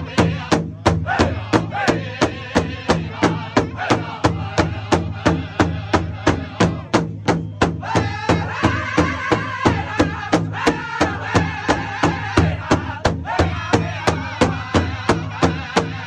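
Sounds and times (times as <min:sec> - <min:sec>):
big drum steady beat: 0:00.0 - 0:16.0
group singing: 0:00.0 - 0:16.0.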